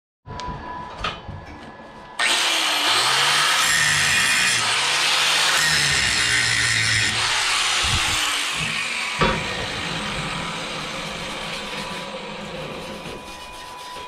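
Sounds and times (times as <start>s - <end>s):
angle grinder grinding metal: 2.2s - 14.0s.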